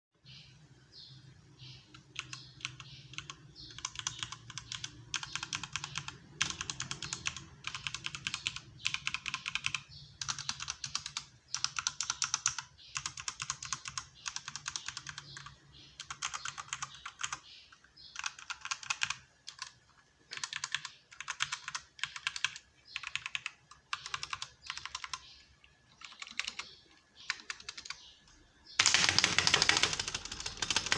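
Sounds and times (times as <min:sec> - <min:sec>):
mechanical keyboard typing: 0:01.9 - 0:17.5, 0:18.1 - 0:25.3, 0:26.0 - 0:28.1, 0:28.8 - 0:30.9.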